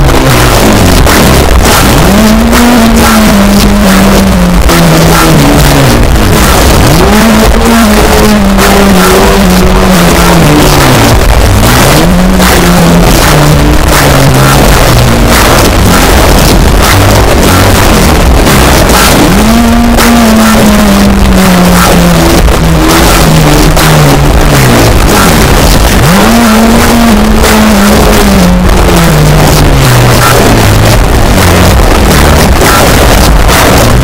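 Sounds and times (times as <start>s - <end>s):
death metal music: 0.0s - 34.0s.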